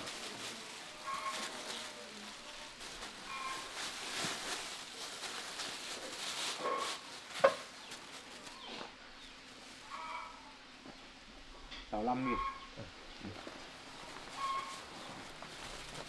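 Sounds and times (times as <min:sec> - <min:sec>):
chickens clucking: 0:00.0 - 0:16.0
rustling handling noise: 0:00.0 - 0:16.0.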